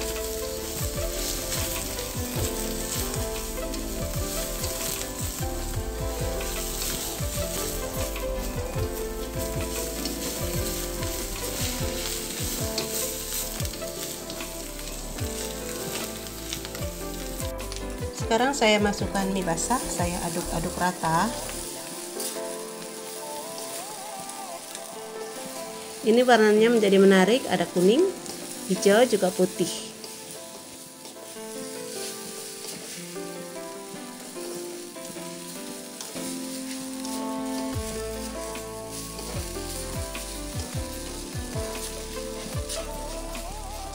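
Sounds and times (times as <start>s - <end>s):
background music melody: 0.0s - 43.9s
food sizzling in a wok: 0.0s - 43.9s
spatula scraping wok: 0.0s - 43.9s.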